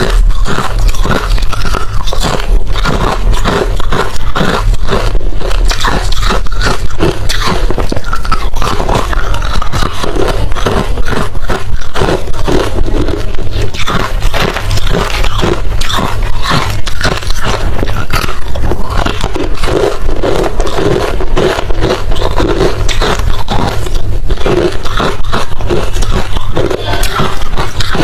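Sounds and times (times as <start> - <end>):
chewing crushed ice: 0.0 - 28.0.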